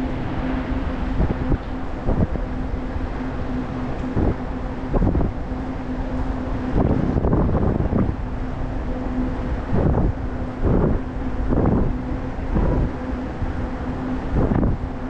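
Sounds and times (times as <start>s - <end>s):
steady low hum: 0.0s - 15.0s
wind buffeting microphone: 0.0s - 15.0s.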